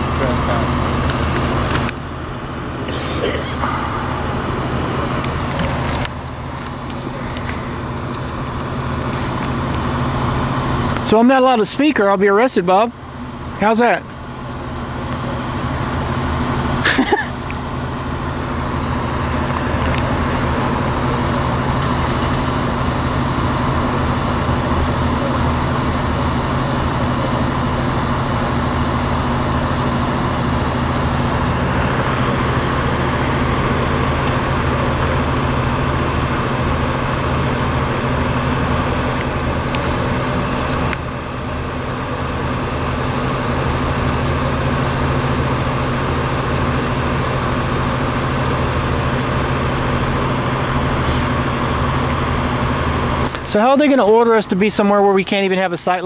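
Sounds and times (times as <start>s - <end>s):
road traffic noise: 0.0s - 56.0s
vehicle engine humming: 0.0s - 56.0s.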